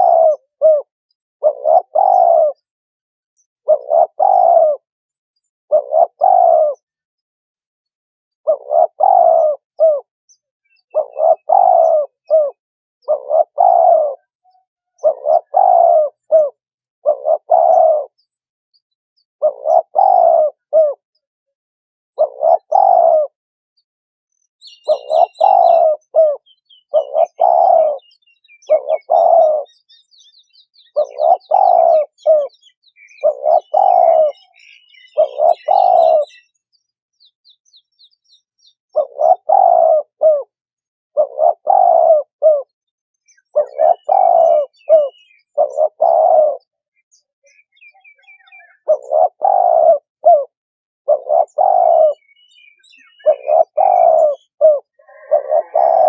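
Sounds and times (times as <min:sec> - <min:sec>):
small birds chirping: 0:00.0 - 0:02.7, 0:03.4 - 0:21.3, 0:22.2 - 0:56.0
turtle dove cooing: 0:00.0 - 0:02.7, 0:03.6 - 0:07.0, 0:08.4 - 0:10.1, 0:10.7 - 0:21.3, 0:22.2 - 0:23.4, 0:24.6 - 0:56.0.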